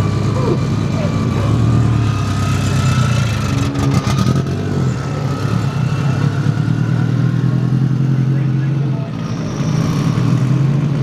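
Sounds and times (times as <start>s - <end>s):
race car engine idling: 0.0s - 11.0s.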